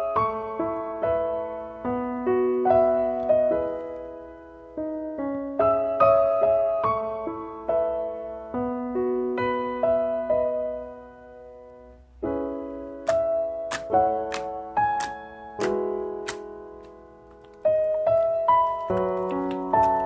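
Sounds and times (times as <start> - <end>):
piano notes ringing: 0.0 - 20.0.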